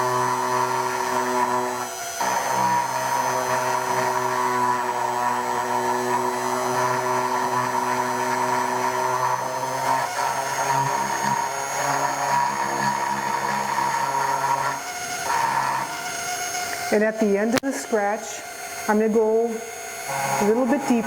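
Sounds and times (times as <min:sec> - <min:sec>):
rotary tool grinding whine: 0:00.0 - 0:21.0.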